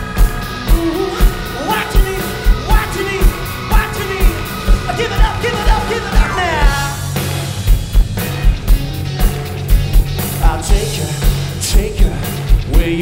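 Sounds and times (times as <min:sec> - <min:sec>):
rock song with male vocal: 0:00.0 - 0:07.6, 0:10.0 - 0:13.0.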